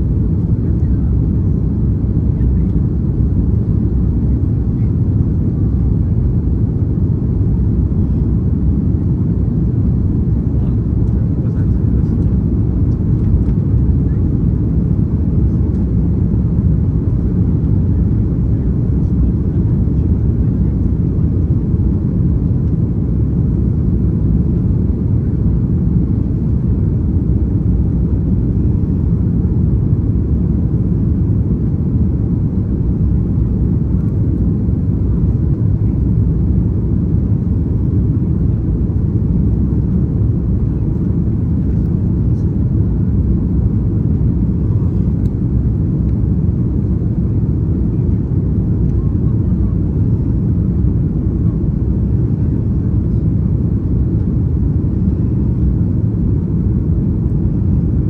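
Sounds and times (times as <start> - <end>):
airliner low rumble: 0.0 - 58.0.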